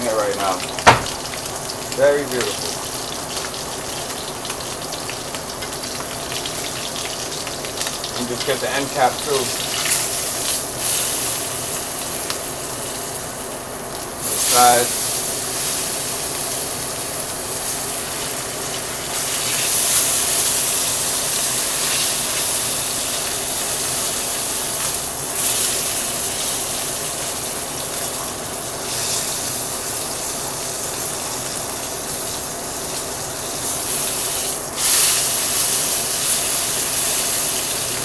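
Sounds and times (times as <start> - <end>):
meat sizzling in a hot pan: 0.0 - 38.0.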